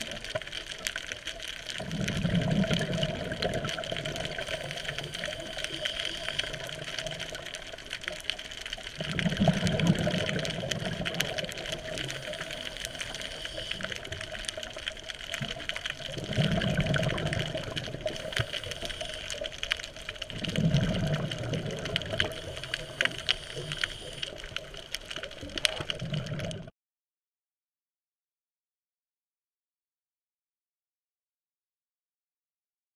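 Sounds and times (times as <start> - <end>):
steady underwater hiss: 0.0 - 26.4
exhaled bubbles underwater: 0.0 - 26.7.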